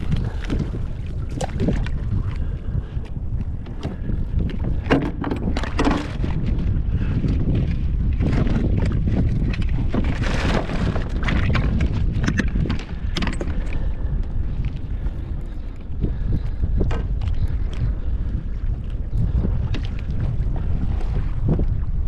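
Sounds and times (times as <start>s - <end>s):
water splashing against kayak: 0.0s - 22.0s
wind buffeting microphone: 0.0s - 22.0s.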